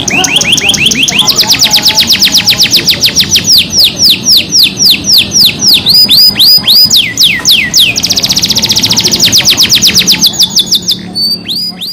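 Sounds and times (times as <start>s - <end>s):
canary singing: 0.0s - 11.9s.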